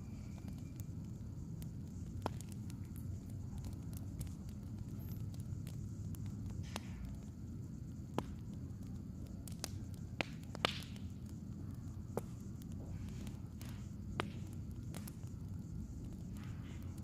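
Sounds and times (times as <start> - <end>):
firewood crackling: 0.0 - 17.0.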